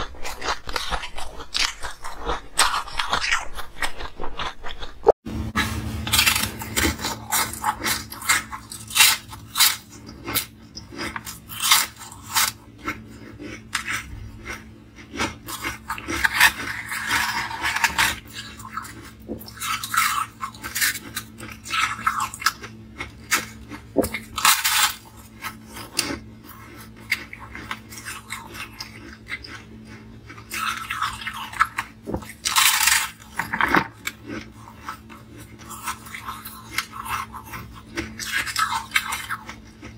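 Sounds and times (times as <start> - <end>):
chewing ice crunching: 0.0 - 5.2, 6.2 - 39.9.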